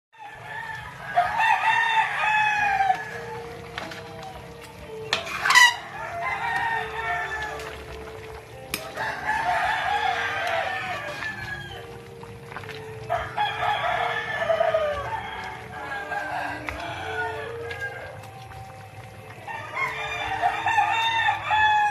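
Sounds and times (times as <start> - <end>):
roosters crowing: 0.2 - 12.0, 13.0 - 21.9.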